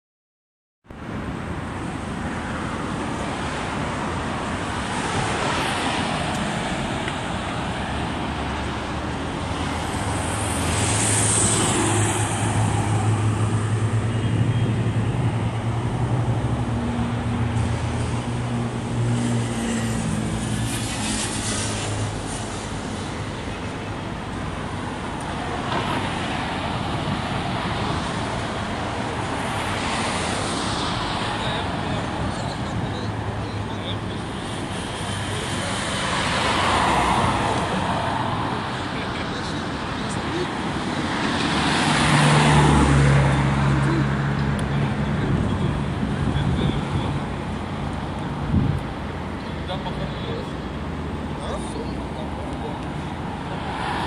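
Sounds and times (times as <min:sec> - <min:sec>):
cars passing by: 0:00.9 - 0:54.0.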